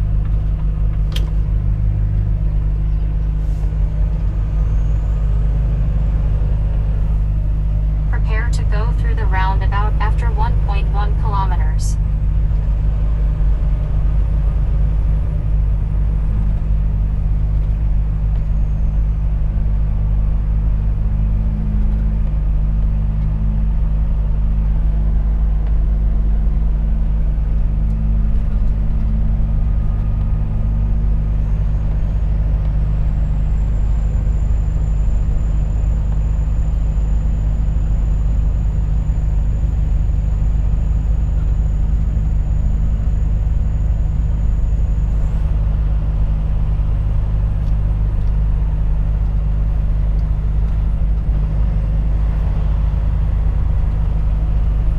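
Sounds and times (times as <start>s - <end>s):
road rumble: 0.0s - 54.9s
truck diesel engine droning: 0.0s - 54.9s.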